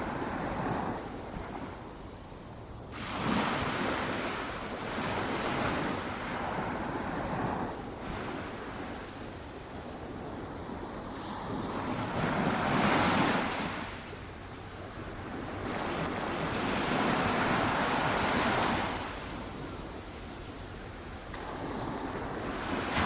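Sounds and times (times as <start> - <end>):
ocean waves breaking on beach: 0.0 - 2.0, 2.9 - 23.0.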